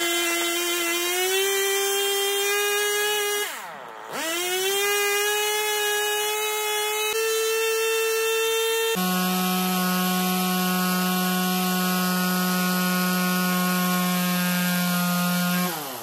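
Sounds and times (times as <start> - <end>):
two-stroke engine at high revs: 0.0 - 16.0.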